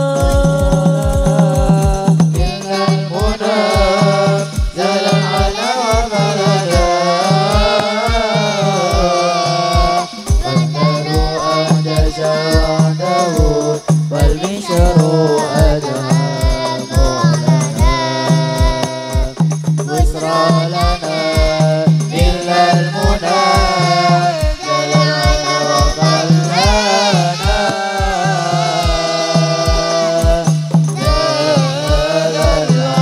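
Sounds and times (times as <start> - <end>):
hand drums beating: 0.0 - 33.0
male voices singing into microphones: 0.0 - 33.0.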